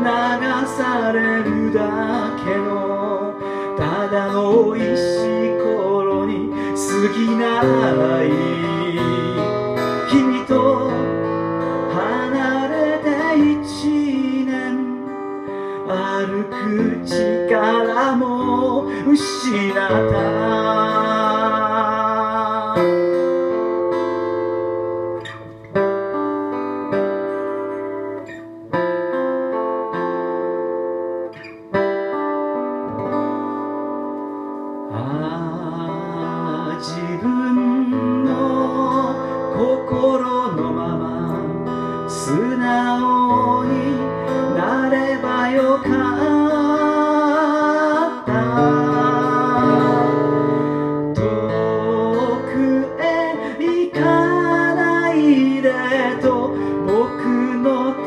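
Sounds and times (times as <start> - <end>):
man singing: 0.0 - 25.5, 34.8 - 58.0
acoustic guitar strumming: 0.0 - 58.0.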